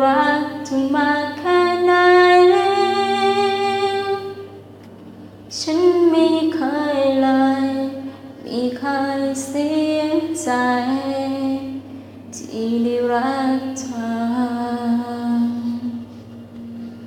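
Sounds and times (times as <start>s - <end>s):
woman singing slow love song: 0.0s - 4.6s, 5.5s - 16.2s
faint low hum: 0.0s - 17.0s.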